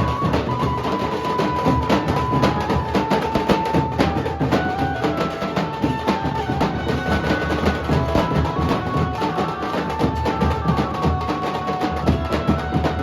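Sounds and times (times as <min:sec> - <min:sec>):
fast dhol drumming: 0:00.0 - 0:13.0.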